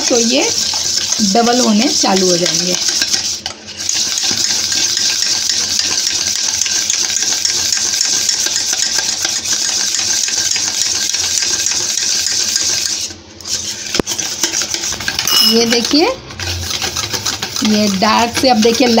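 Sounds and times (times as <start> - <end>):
wire whisk scraping metal bowl: 0.0 - 19.0.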